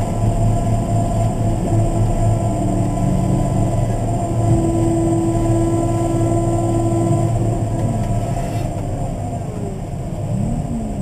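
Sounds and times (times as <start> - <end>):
diesel engine running: 0.0 - 11.0
higher steady hum: 0.0 - 11.0.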